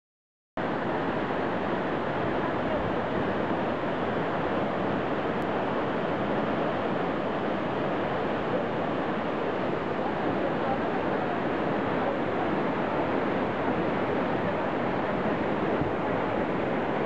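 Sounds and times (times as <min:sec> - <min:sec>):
river whitewater rushing: 0:00.6 - 0:17.0.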